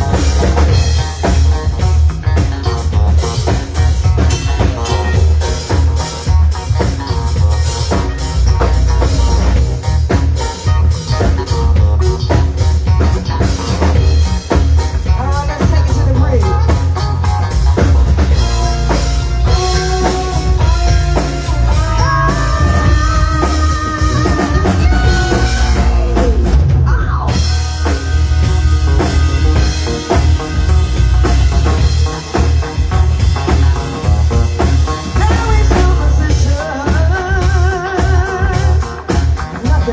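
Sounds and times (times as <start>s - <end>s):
drum kit: 0.0s - 39.9s
heavy bass: 0.0s - 39.9s
melodic lead line: 0.0s - 39.9s.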